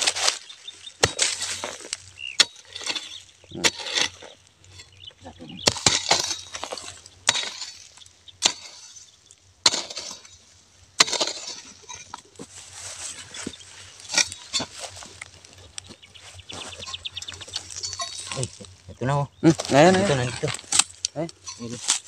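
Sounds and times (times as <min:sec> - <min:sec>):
metal digging tool chopping soil: 0:00.0 - 0:05.0, 0:05.6 - 0:12.3, 0:13.9 - 0:15.5, 0:16.5 - 0:18.7, 0:19.5 - 0:22.0
clods of soil rattling: 0:00.0 - 0:22.0.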